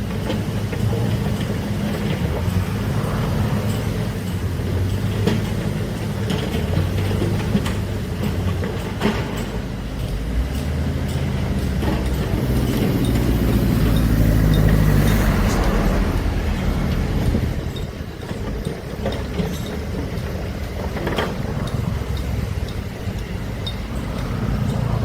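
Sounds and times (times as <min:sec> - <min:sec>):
heavy machine engine under load: 0:00.0 - 0:25.0.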